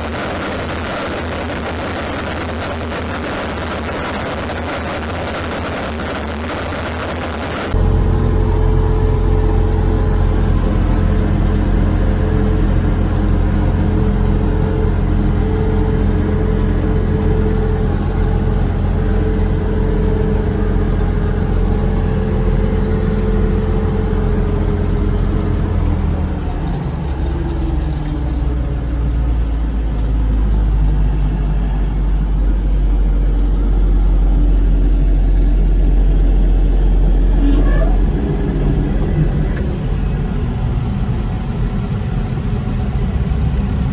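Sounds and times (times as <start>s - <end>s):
combine engine running: 7.5s - 43.9s.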